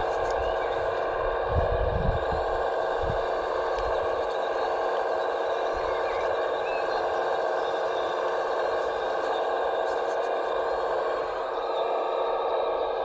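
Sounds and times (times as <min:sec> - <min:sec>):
electric motor and pump whine: 0:00.0 - 0:13.0.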